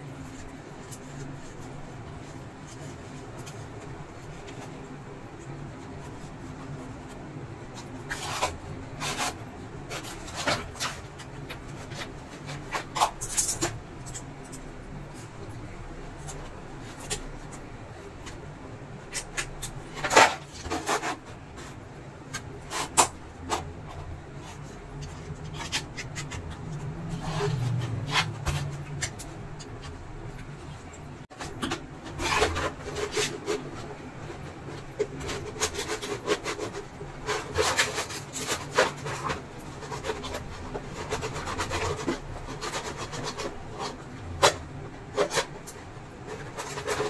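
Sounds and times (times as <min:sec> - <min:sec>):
plastic frame scraping and rubbing: 0:00.0 - 0:47.0.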